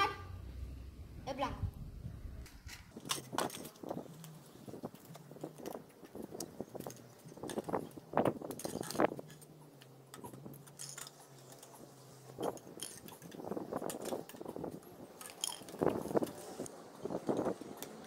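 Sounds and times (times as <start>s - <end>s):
plastic tubes clacking and clicking: 2.5s - 18.0s.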